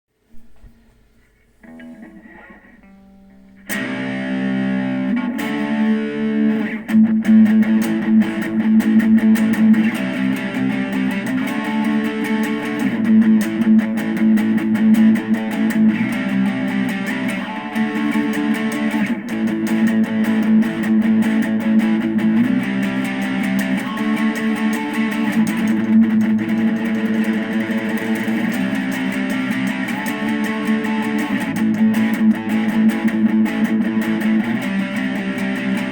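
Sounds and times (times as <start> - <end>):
distorted electric guitar chords: 1.6 - 35.9.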